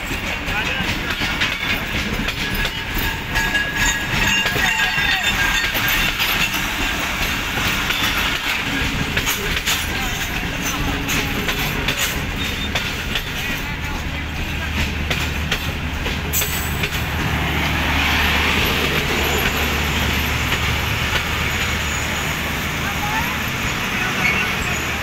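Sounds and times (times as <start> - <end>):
train wheels clattering over rail joints: 0.0 - 22.7
continuous train rumble: 0.0 - 25.0.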